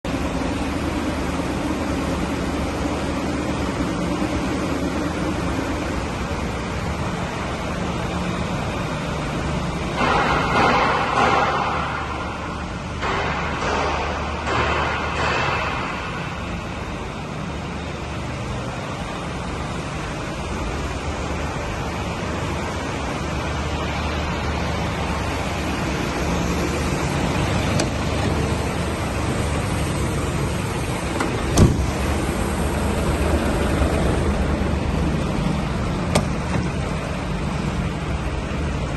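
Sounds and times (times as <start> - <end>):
diesel truck engine idling: 0.0 - 14.6, 15.6 - 38.9.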